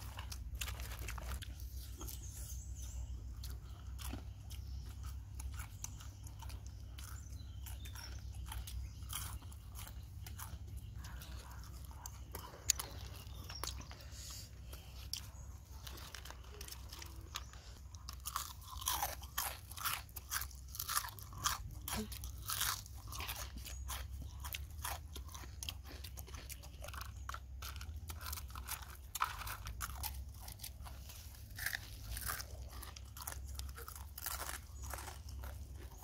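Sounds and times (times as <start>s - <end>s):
crunching and chewing fried food: 0.0s - 36.0s.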